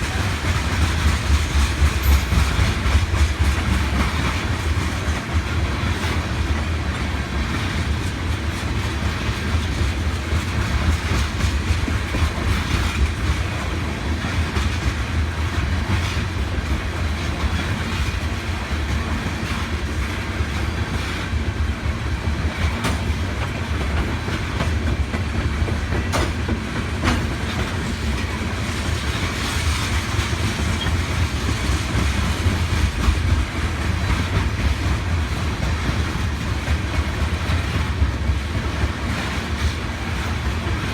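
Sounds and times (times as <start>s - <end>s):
train tank cars rumbling: 0.0s - 40.9s.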